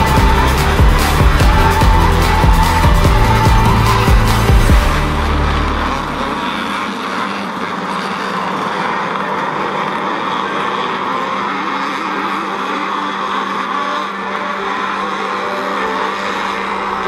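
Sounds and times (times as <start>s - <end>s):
distant motorcycles racing: 0.0s - 17.0s.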